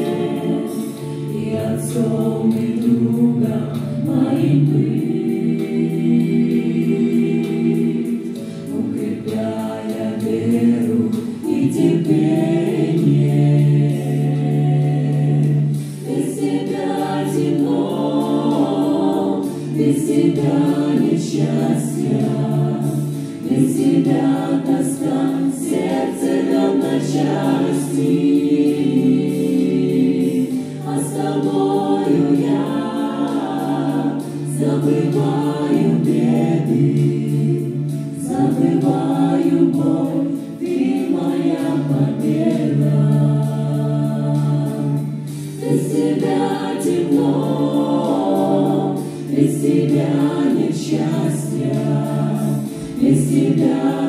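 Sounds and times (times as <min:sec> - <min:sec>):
mixed choir singing in harmony: 0:00.0 - 0:54.0.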